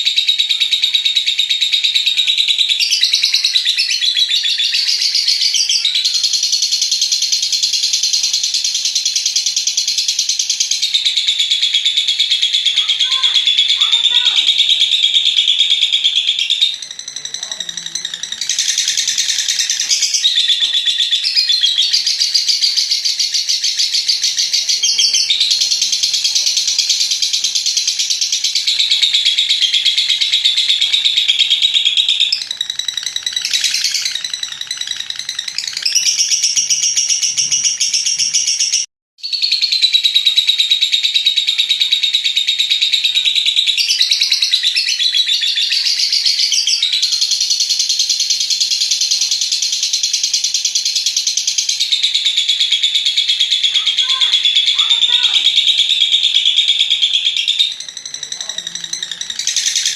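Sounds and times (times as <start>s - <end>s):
lovebird trilling chatter: 0.0s - 59.9s.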